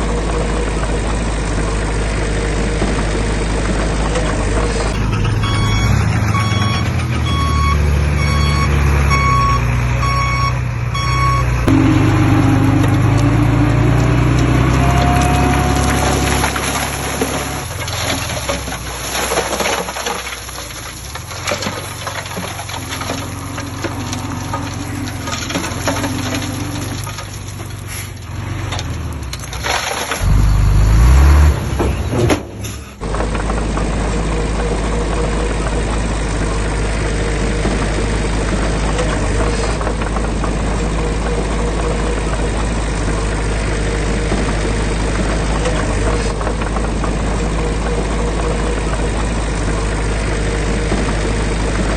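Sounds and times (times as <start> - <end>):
diesel construction machinery: 0.0 - 51.9
low diesel engine drone: 0.0 - 51.9.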